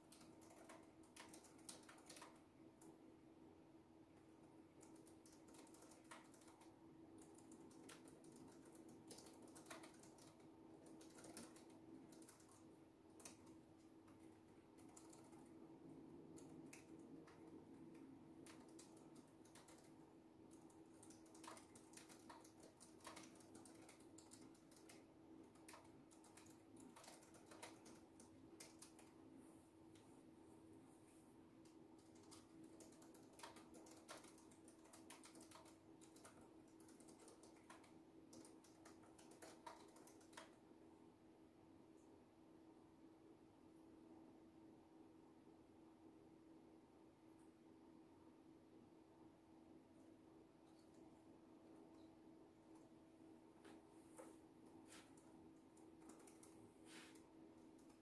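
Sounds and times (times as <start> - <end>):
soft keyboard typing: 0.0 - 3.2, 4.1 - 30.2, 31.5 - 40.9, 50.0 - 58.0
faint steady hum: 0.0 - 58.0.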